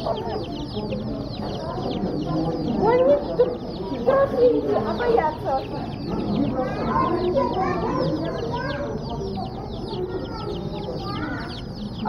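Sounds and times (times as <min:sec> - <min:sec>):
chicks peeping: 0:00.0 - 0:12.0
lower louder calls: 0:00.0 - 0:12.0.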